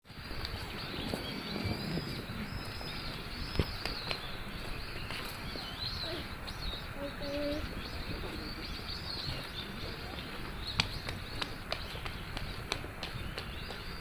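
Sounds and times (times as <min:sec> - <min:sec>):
outdoor background hiss: 0:00.1 - 0:14.0
small birds chirping: 0:00.1 - 0:14.0.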